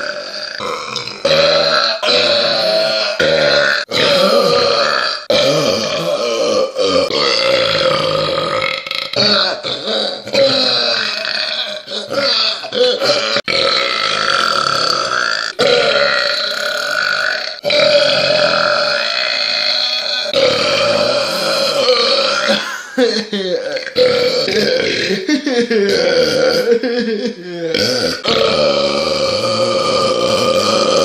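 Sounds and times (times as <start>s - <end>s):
loud belching: 0.0s - 25.3s, 25.9s - 26.7s, 27.7s - 31.0s.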